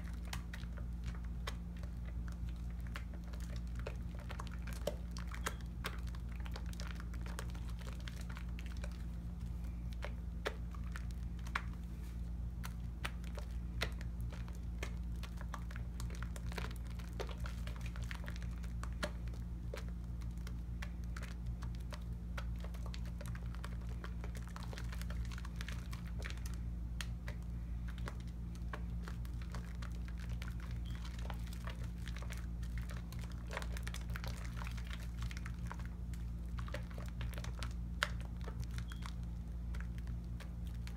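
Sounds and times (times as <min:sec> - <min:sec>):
soap foam crackling: 0:00.0 - 0:40.9.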